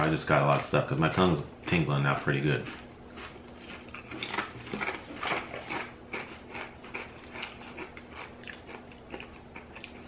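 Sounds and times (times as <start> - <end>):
person chewing crunchy crisp: 0.0 - 10.0.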